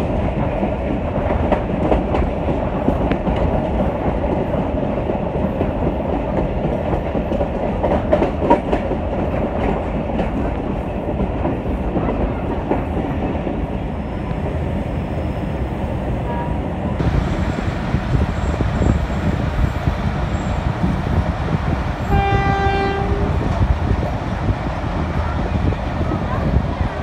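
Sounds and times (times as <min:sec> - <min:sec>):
wheel-on-rail rumble: 0:00.0 - 0:27.0.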